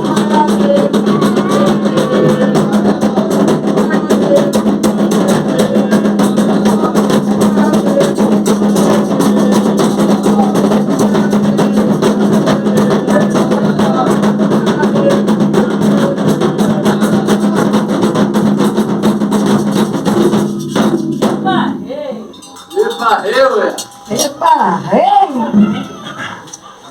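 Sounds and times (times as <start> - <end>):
fast percussion drumming: 0.0 - 25.2.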